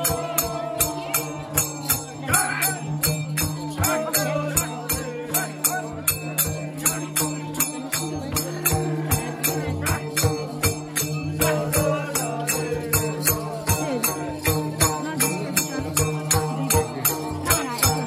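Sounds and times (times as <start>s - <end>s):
quick percussion beat: 0.0s - 18.0s.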